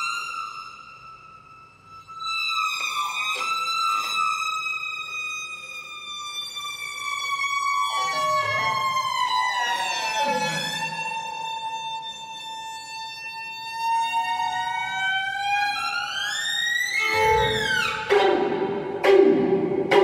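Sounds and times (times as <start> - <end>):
processed violin sliding notes: 0.0 - 20.0.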